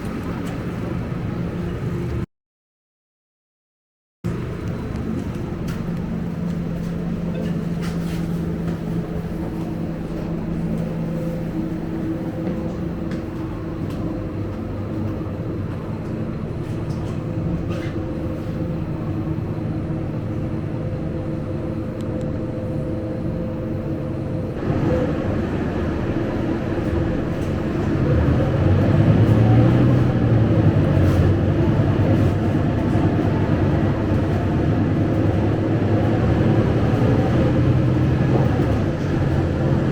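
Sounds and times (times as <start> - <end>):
bus engine humming: 0.0 - 2.3, 4.3 - 39.9.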